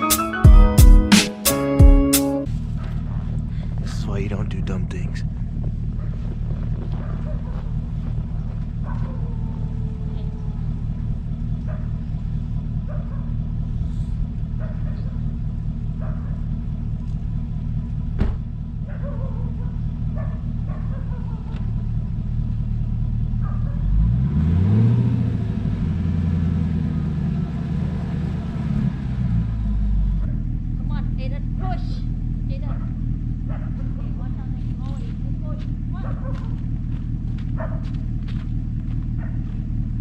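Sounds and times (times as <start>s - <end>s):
car engine idling and revving: 1.5s - 40.0s.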